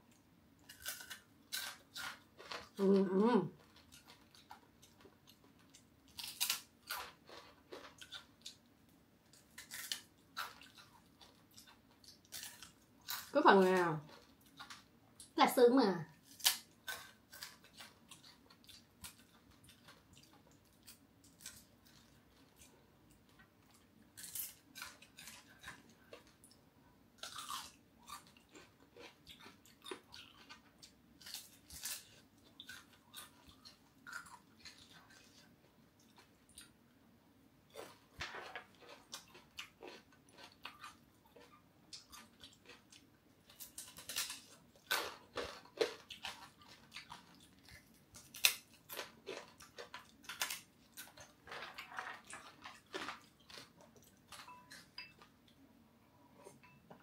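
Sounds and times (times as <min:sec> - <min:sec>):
chewing crispy fried fish: 0:00.1 - 0:15.4, 0:16.1 - 0:26.6, 0:27.2 - 0:36.8, 0:37.7 - 0:55.6.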